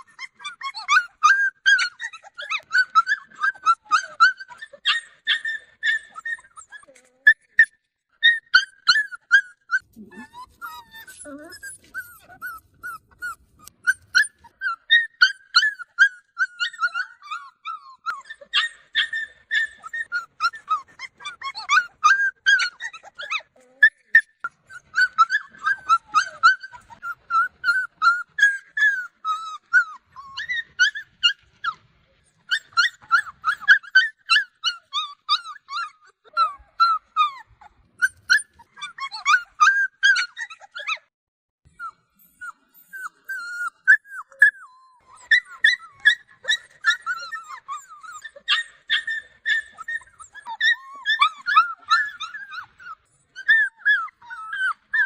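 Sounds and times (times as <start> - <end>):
dogs whining: 0.0 - 41.1, 41.7 - 55.0.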